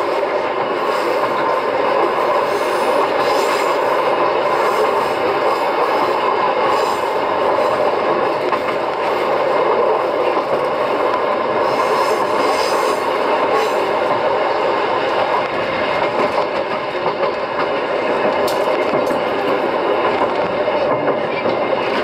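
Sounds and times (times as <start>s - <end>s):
train wheels on track: 0.0s - 22.0s.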